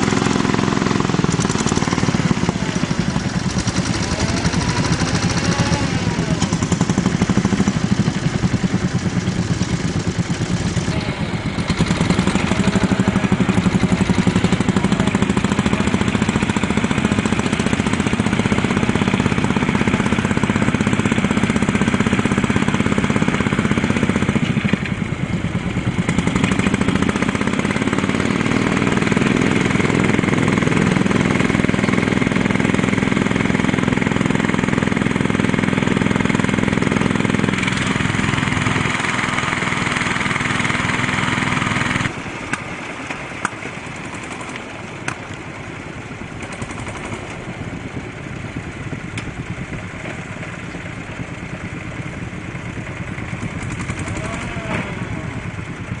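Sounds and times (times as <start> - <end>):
small engines chugging: 0.0 - 56.0.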